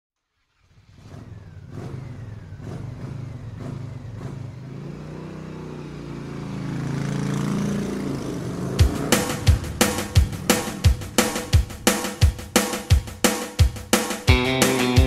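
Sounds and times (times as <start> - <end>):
vehicle engine revving: 0.4 - 13.3.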